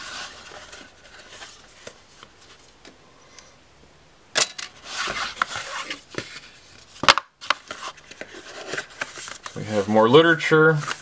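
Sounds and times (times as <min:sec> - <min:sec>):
cardboard packaging rustling: 0:00.0 - 0:02.7, 0:04.8 - 0:11.0.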